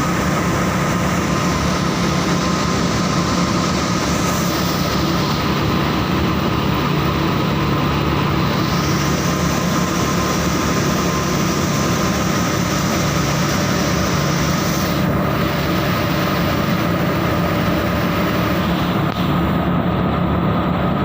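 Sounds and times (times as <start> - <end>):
textile machine humming and hissing: 0.0 - 21.0.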